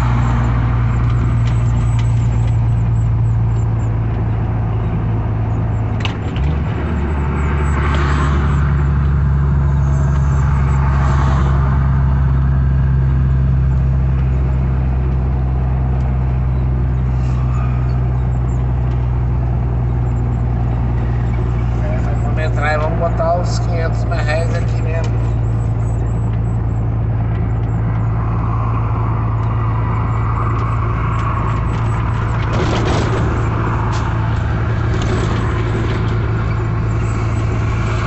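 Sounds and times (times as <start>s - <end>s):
truck engine and road noise: 0.0s - 38.0s.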